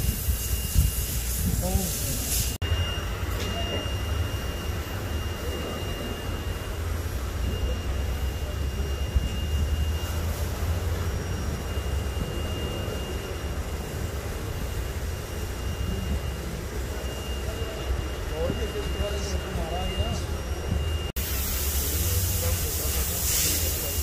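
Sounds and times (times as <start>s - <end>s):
machinery rumble and hiss: 0.0s - 24.0s
thin high whine: 0.0s - 24.0s.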